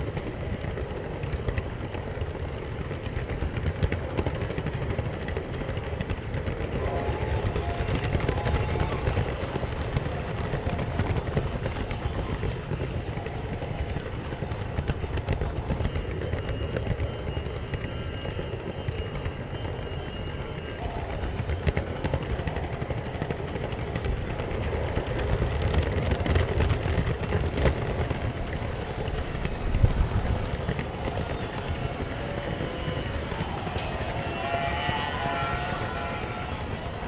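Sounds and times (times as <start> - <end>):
toy train wheels rumbling: 0.0 - 37.0.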